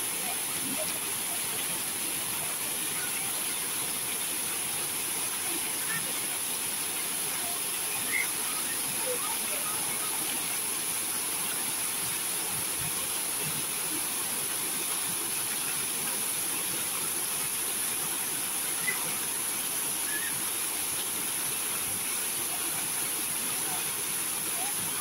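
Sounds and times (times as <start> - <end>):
fountain water splashing: 0.0 - 25.0.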